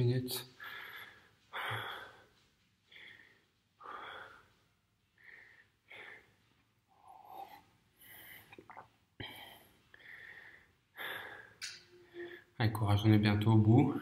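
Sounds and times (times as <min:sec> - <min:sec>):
man breathing hard: 0:00.6 - 0:08.6, 0:09.2 - 0:12.6.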